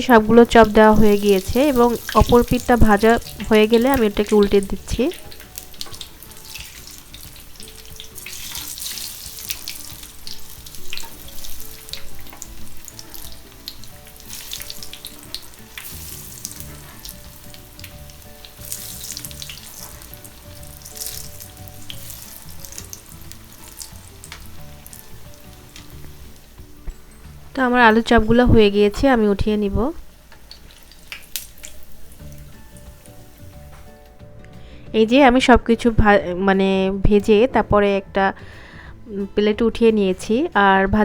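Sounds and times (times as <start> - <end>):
food deep-frying in oil: 0.0 - 34.0.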